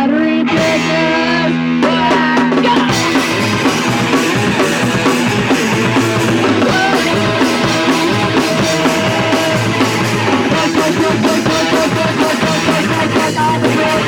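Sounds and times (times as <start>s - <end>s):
punk rock song: 0.0s - 14.0s.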